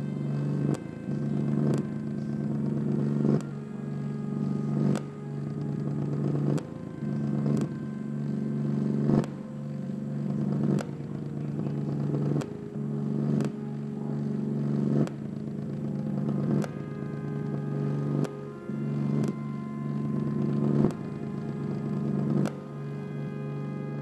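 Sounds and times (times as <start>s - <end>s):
synthesizer droning notes: 0.0s - 24.0s.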